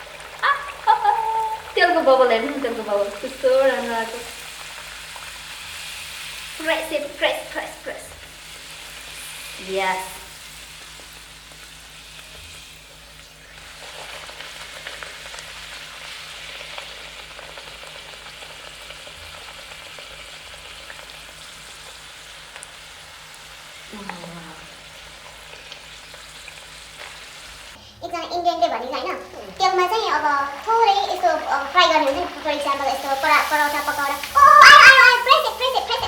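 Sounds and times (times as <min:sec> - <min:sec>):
dough sizzling in hot oil: 0:00.0 - 0:36.0.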